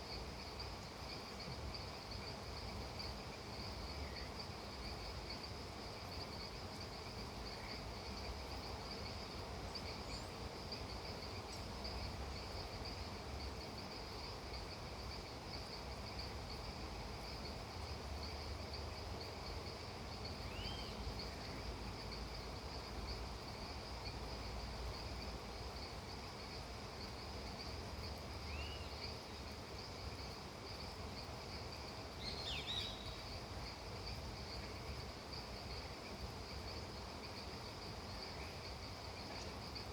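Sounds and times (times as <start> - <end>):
low background hiss: 0.0 - 39.9
insects trilling: 0.1 - 39.9.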